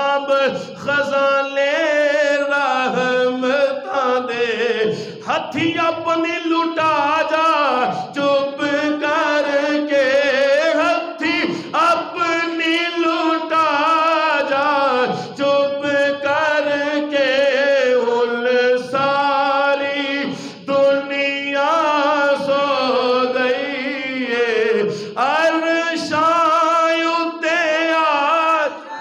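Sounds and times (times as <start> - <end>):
man singing unaccompanied: 0.0 - 29.0.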